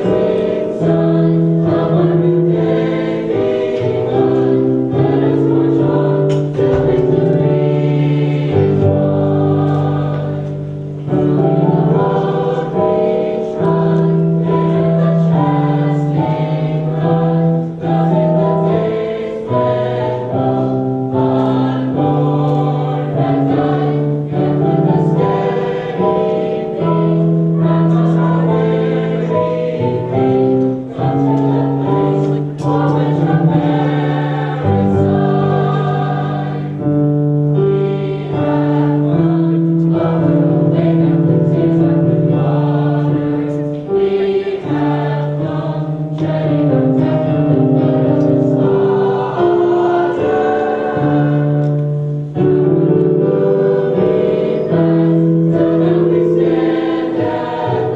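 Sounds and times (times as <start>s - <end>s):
choir singing in parts: 0.0s - 57.9s.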